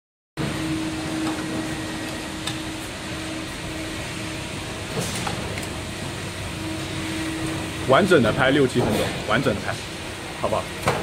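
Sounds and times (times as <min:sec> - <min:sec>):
machine hum and hiss: 0:00.4 - 0:11.0.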